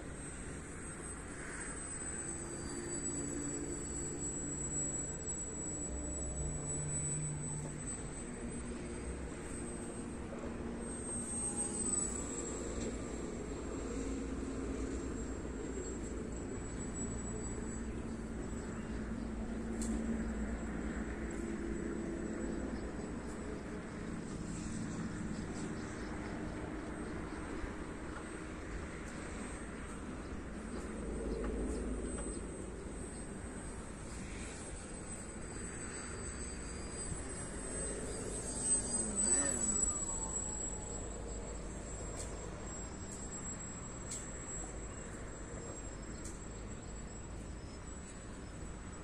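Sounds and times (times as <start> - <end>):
model plane motor drone: 0.0 - 49.0
thin high whine: 0.0 - 49.0.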